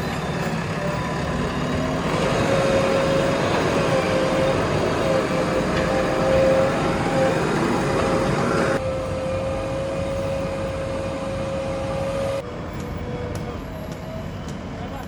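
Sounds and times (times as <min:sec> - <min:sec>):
diesel engine running: 0:00.0 - 0:15.0
high even whine: 0:00.0 - 0:15.0.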